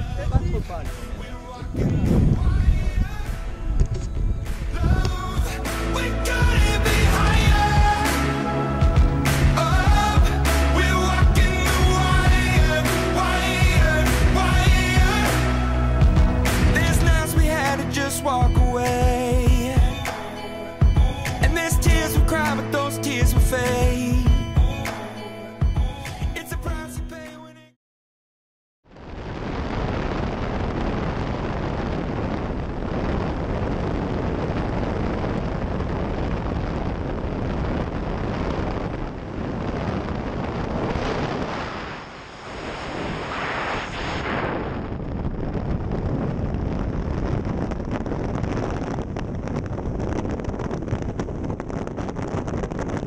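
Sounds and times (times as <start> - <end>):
wind buffeting microphone: 0.0 - 20.2, 29.0 - 53.0.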